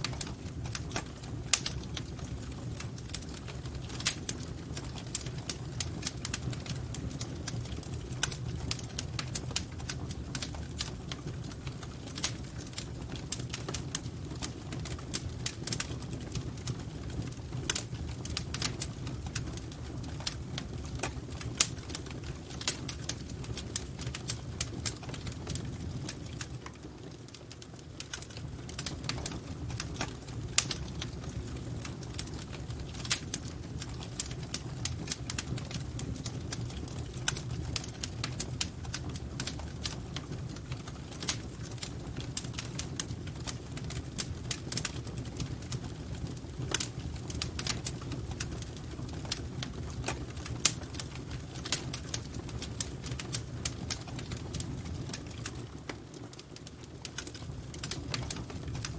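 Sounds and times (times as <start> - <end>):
low fire rumble: 0.0 - 58.9
wood fire crackling: 0.0 - 58.9.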